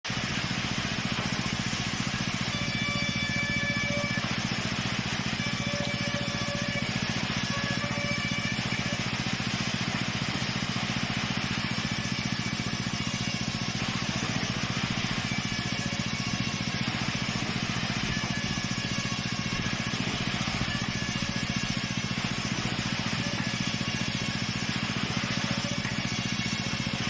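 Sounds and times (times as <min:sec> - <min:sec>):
hissing saw noise: 0:00.1 - 0:27.0
saw motor hum: 0:00.1 - 0:27.0.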